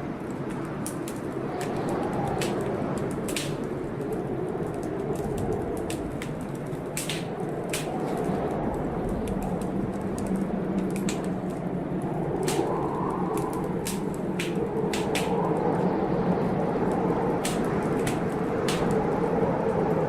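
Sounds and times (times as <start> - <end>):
storm rushing noise: 0.0 - 20.0
wood fire crackling and popping: 0.0 - 20.0.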